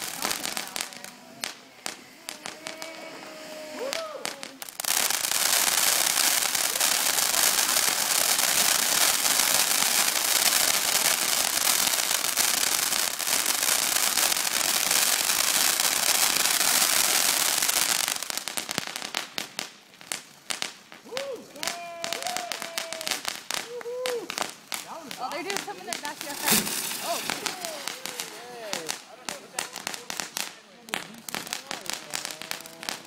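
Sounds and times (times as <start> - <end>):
fireworks hissing and crackling: 0.0 - 33.0
sharp crackles and pops: 0.0 - 33.0.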